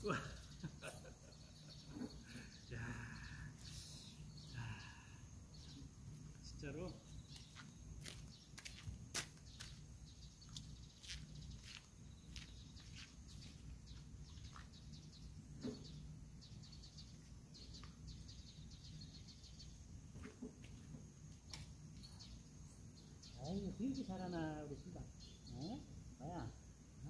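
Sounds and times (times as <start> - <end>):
bird chirps: 0.0 - 27.0
high insect tone: 0.0 - 27.0.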